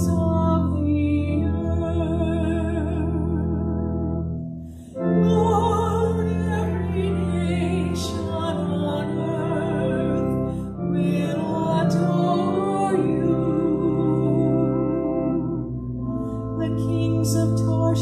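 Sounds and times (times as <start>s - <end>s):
sustained keyboard accompaniment: 0.0s - 18.0s.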